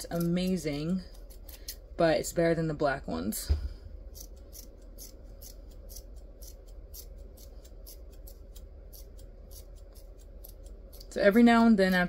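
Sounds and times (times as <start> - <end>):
scissors snipping yarn: 0.0 - 1.8, 4.1 - 12.0.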